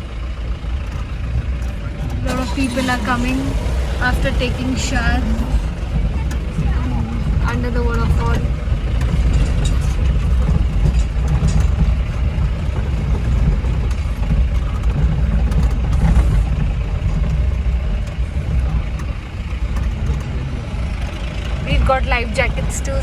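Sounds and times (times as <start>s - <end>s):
engine running with low rumble: 0.0s - 23.0s.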